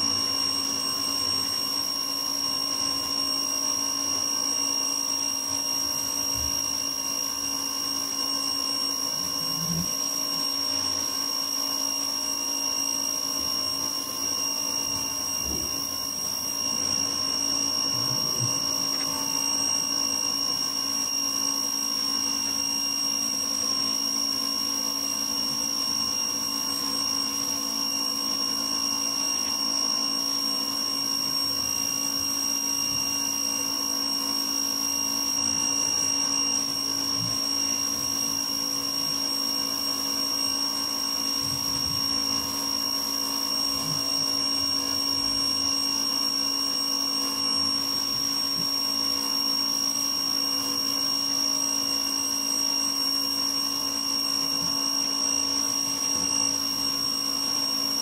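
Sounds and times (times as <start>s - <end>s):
pressure washer motor whine: 0.0s - 58.0s.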